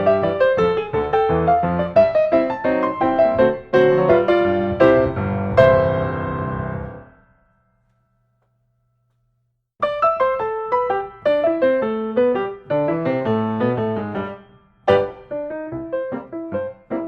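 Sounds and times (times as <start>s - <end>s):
piano music: 0.0s - 7.5s, 9.8s - 17.0s.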